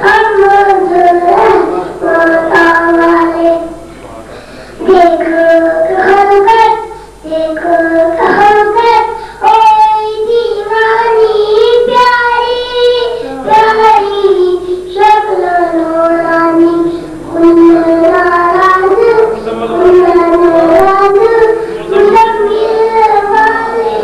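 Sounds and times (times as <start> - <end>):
boy singing into a microphone: 0.0 - 3.9, 4.6 - 24.0.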